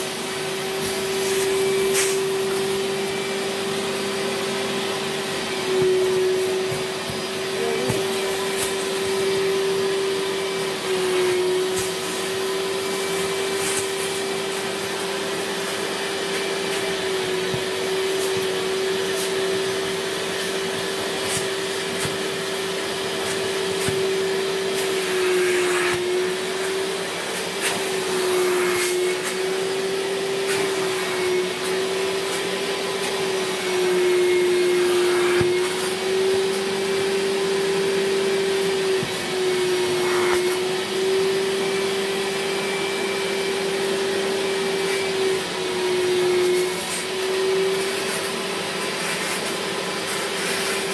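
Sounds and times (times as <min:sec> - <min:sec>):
vacuum motor whining: 0:00.0 - 0:50.9.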